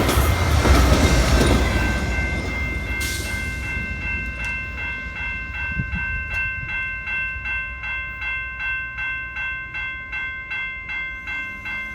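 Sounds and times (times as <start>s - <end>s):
crossing bell ringing: 0.0s - 11.9s
passing train rumble: 0.0s - 11.9s.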